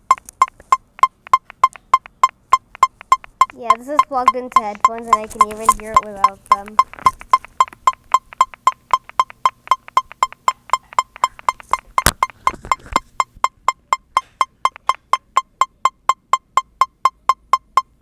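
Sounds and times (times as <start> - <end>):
sharp click: 0.0 - 13.4, 14.0 - 15.5
metronome beeping: 0.0 - 18.0.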